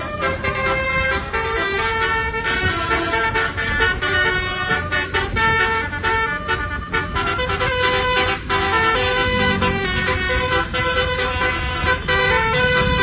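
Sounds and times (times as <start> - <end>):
multi-tone bus horn melody: 0.0 - 13.0.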